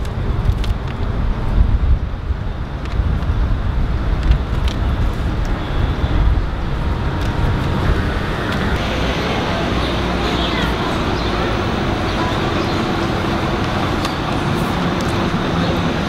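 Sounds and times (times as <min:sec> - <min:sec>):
city street traffic: 0:00.0 - 0:16.0
wind noise on microphone: 0:00.0 - 0:16.0.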